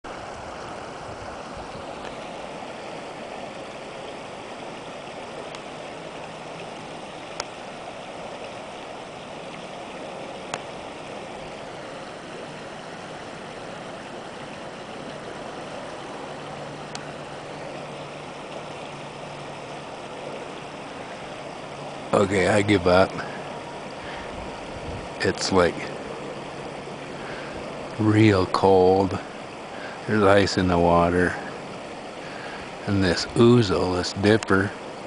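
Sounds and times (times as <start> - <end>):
creek running over its bed: 0.0 - 35.0.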